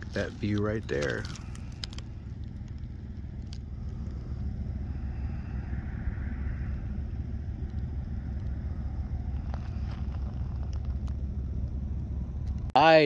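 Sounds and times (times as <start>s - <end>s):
generator humming: 0.0s - 13.0s.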